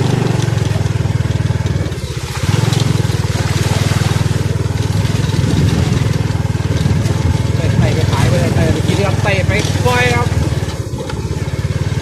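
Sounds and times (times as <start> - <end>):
small vehicle engine running: 0.0 - 12.0.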